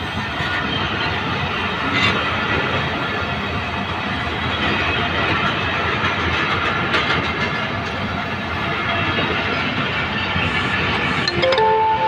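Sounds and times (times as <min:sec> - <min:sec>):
train wheels rumbling on rails: 0:00.0 - 0:11.3.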